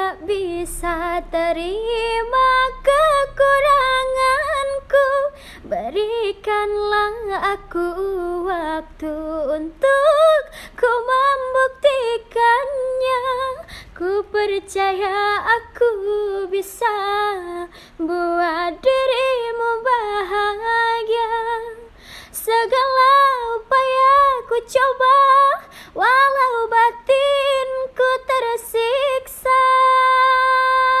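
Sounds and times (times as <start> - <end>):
woman singing unaccompanied: 0.0 - 31.0.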